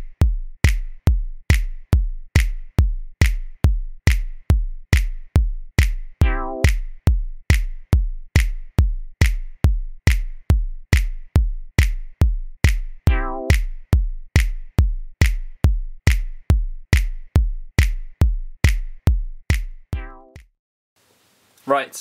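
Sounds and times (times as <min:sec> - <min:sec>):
drum machine kick beat: 0:00.0 - 0:20.5.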